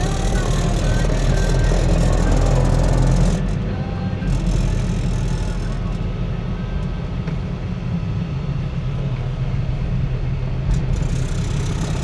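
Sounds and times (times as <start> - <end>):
diesel pickup engine running: 0.0 - 12.0.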